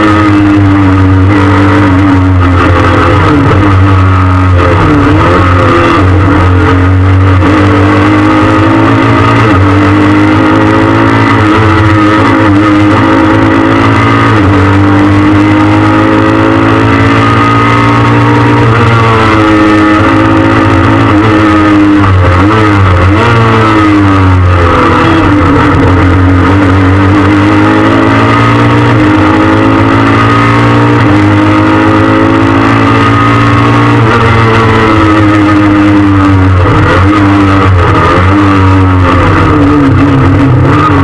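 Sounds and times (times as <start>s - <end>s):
car engine revving: 0.0s - 41.0s
road and drivetrain noise: 0.0s - 41.0s.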